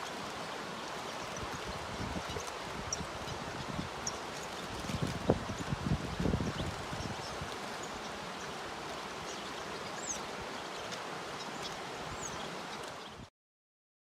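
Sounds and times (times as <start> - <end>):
steady outdoor hiss: 0.0 - 13.3.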